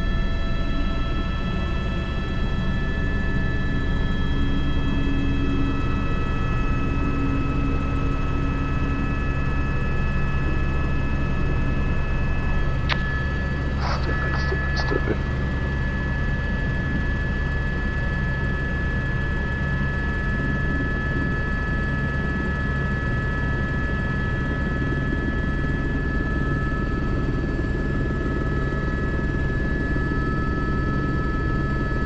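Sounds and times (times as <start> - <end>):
helicopter rotor and engine: 0.0 - 32.0
high-pitched turbine whine: 0.0 - 32.0.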